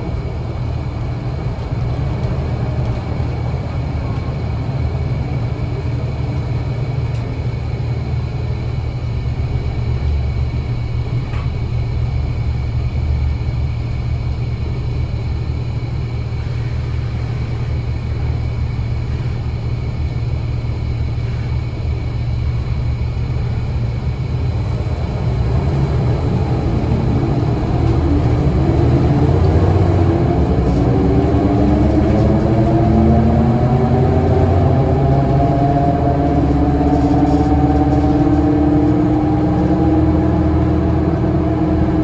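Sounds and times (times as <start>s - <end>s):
bus engine rumbling: 0.0s - 42.0s.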